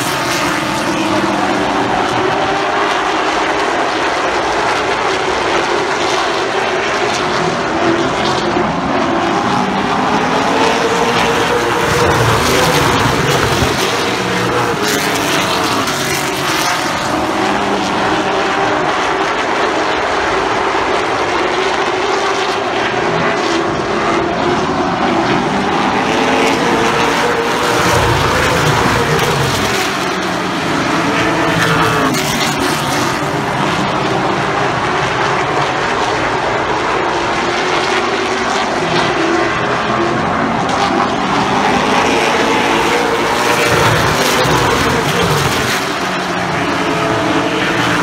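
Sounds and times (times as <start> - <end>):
race car engines: 0.0 - 48.0.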